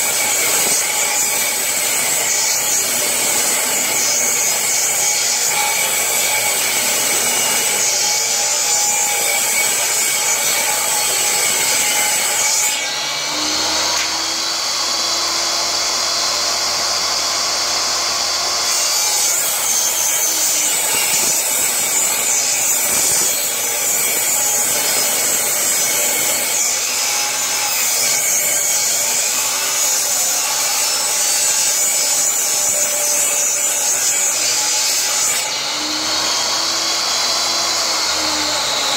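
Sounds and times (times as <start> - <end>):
table saw ripping wood: 0.0 - 38.9.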